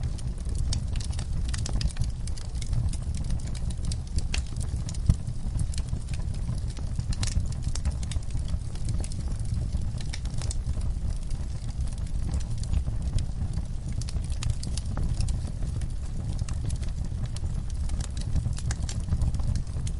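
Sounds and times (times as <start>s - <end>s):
low rumble of flames: 0.0s - 19.9s
wood fire crackling: 0.0s - 19.9s
sharp pops of fire: 0.3s - 19.9s.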